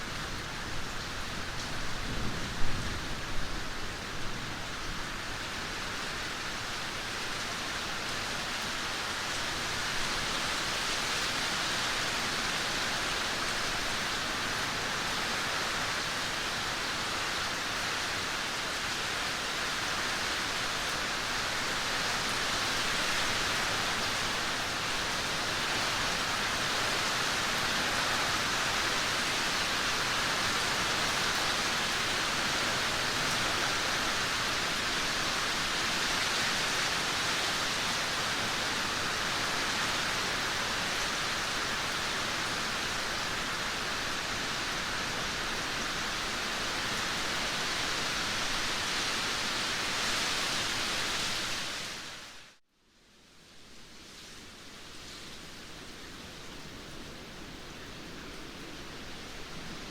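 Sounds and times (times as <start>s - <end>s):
heavy rain pouring: 0.0s - 52.6s, 54.4s - 59.9s.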